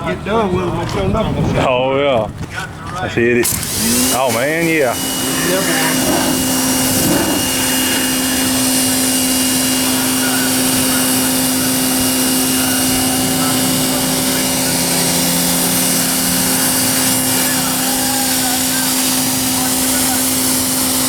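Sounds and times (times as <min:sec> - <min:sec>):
pressure washer motor hum: 0:03.4 - 0:21.0
water spray hiss: 0:03.6 - 0:21.0.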